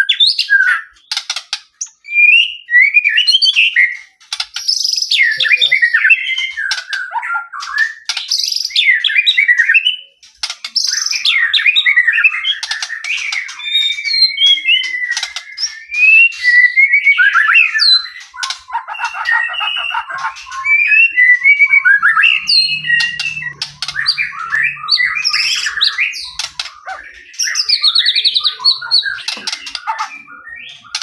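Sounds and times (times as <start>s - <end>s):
songbird whistling and chattering: 0.0s - 31.0s.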